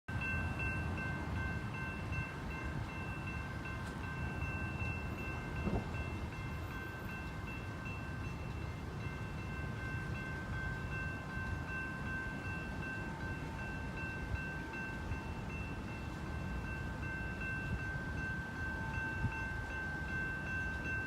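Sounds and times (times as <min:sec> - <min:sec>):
freight train rumbling by: 0:00.1 - 0:21.0.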